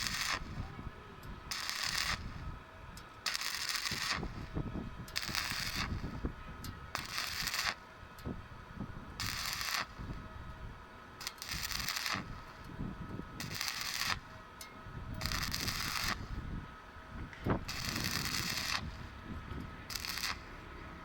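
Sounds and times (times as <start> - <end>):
welding arc crackling and hissing: 0.0 - 21.0.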